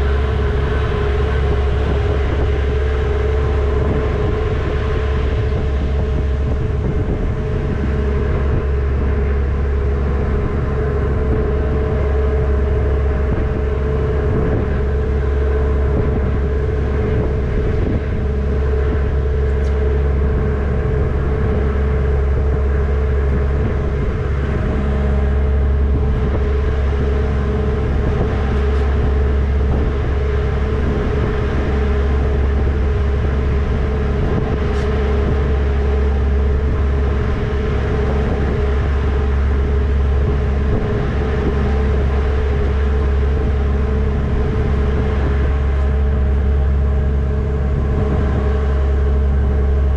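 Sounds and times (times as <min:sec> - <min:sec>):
ferry diesel engines rumbling: 0:00.0 - 0:49.9.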